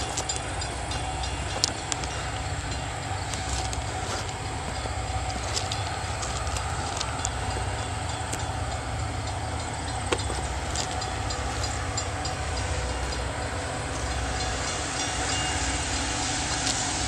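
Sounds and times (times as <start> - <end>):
locomotive rumble: 0.0 - 17.0.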